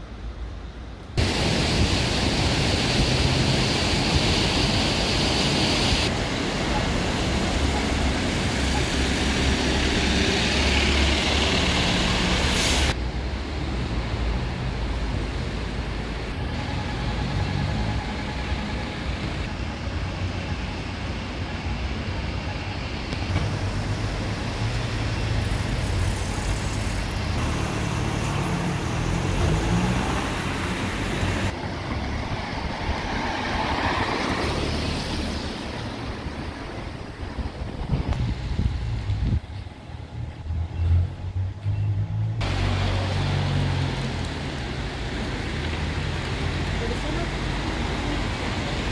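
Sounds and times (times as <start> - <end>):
cars passing on street: 0.0 - 48.9
bus driving past: 1.2 - 48.9.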